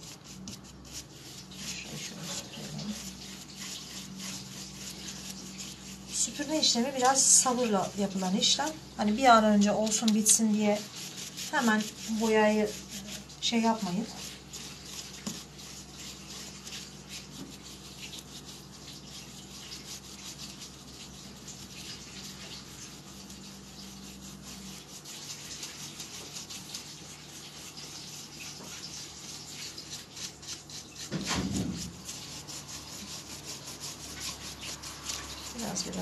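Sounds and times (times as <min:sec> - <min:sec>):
stiff brush scratching a rough surface: 0:00.0 - 0:36.0.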